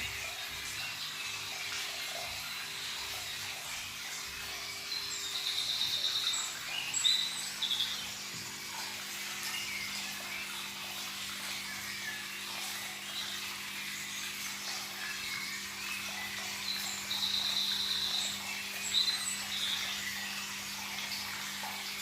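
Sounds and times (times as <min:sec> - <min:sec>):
running water: 0:00.0 - 0:22.0.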